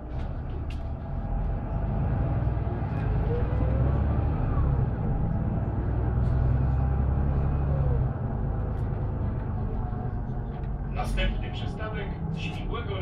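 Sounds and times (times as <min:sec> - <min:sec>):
bus diesel engine running: 0:00.0 - 0:13.0
road and tyre noise: 0:00.0 - 0:13.0.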